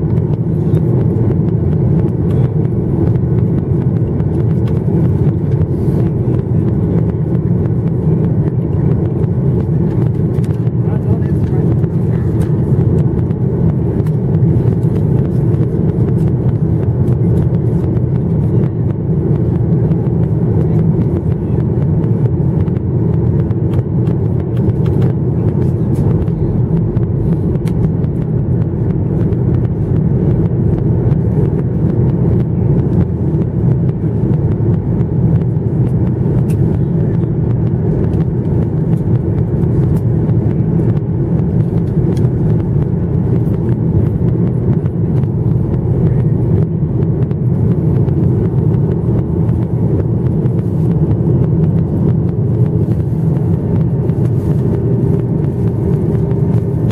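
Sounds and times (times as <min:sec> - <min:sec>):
airplane cabin engine drone: 0:00.0 - 0:56.9.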